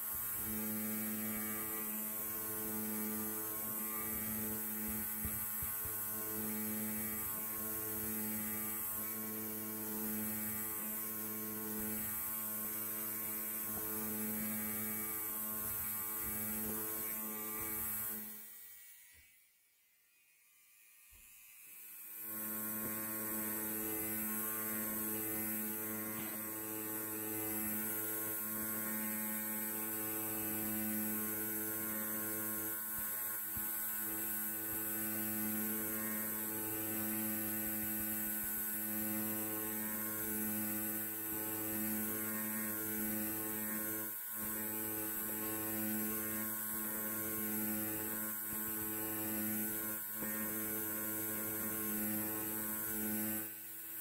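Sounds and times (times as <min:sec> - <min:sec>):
electric hair clipper buzzing: 0:00.0 - 0:54.0.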